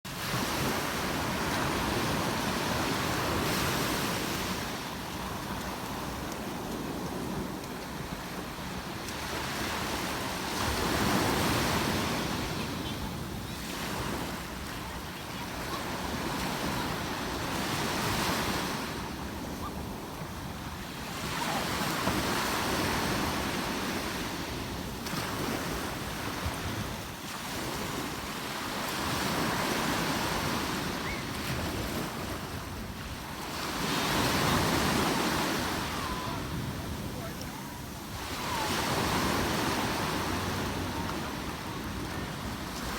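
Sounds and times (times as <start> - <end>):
sea waves washing on shore: 0.1 - 42.9.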